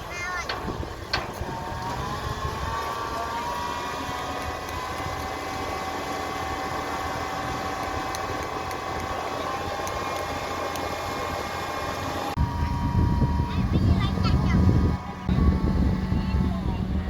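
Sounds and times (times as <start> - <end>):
heavy truck engine running: 0.0 - 17.0.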